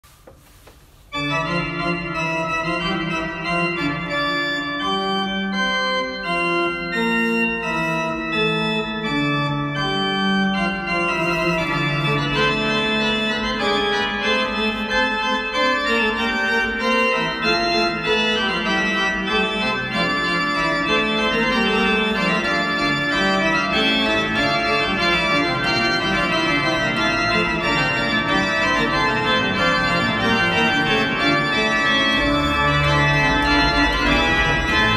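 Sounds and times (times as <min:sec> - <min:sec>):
church organ playing: 0:01.0 - 0:34.9.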